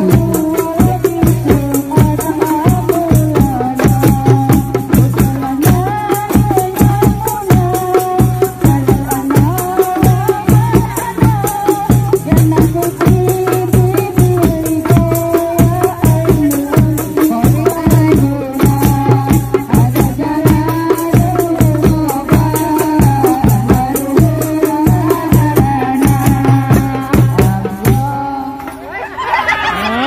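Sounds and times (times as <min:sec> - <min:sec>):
bass drum: 0:00.0 - 0:28.7
darbuka: 0:00.0 - 0:30.0
women singing into a microphone: 0:00.0 - 0:30.0.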